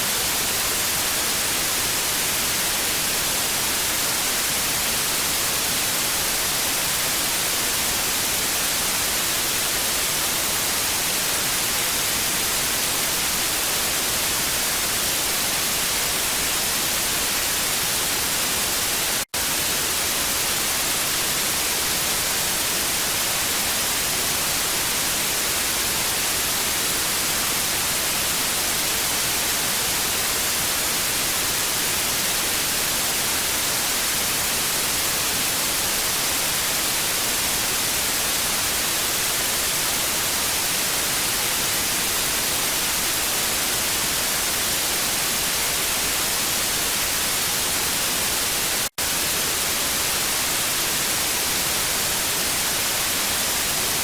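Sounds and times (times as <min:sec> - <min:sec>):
television static hiss: 0:00.0 - 0:54.0.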